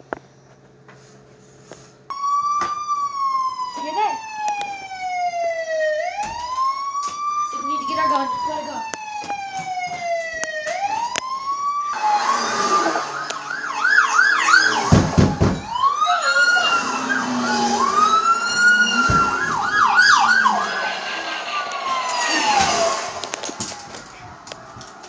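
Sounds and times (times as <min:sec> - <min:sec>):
emergency sirens wailing and yelping: 0:02.1 - 0:25.0.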